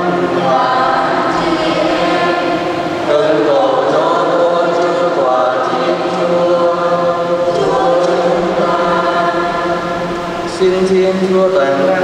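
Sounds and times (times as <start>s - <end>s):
church choir chanting: 0.0s - 11.8s.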